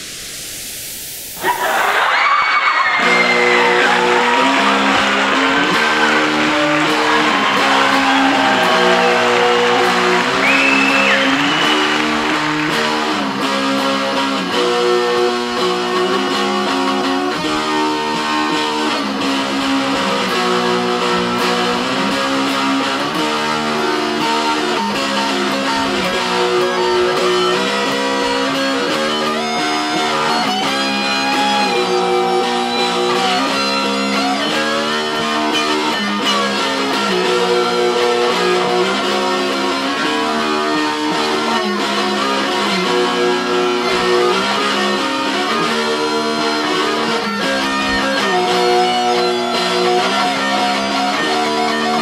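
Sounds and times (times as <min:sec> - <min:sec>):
sliding guitar lead line: 0:01.3 - 0:52.0
electric guitars playing chords: 0:02.2 - 0:52.0.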